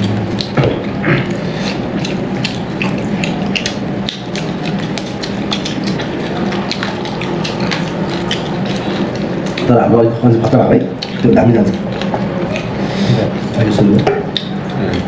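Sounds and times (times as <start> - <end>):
chewing and mouth noises: 0.0 - 15.0
low background hum: 0.0 - 15.0.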